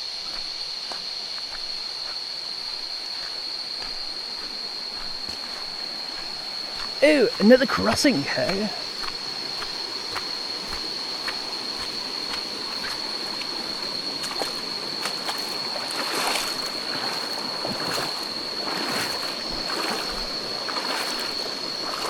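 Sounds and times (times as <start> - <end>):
high-pitched insect drone: 0.0 - 22.0
footsteps splashing through water: 0.3 - 22.0.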